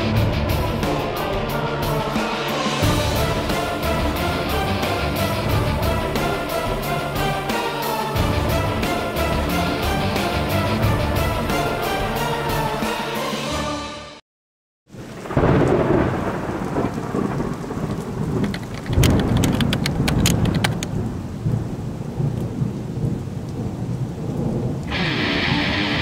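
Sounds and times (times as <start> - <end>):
thunder crackles: 0.0 - 11.8, 14.9 - 26.0
thunder rumbling: 0.0 - 12.1, 15.0 - 26.0
steady rain: 0.0 - 12.8, 14.9 - 26.0.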